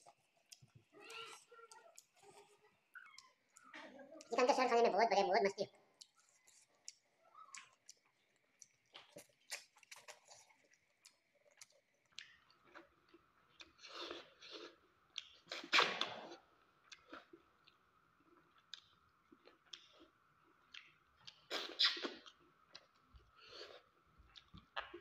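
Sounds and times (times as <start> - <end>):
man chewing with wet smacks: 0.0 - 4.4, 5.9 - 25.0.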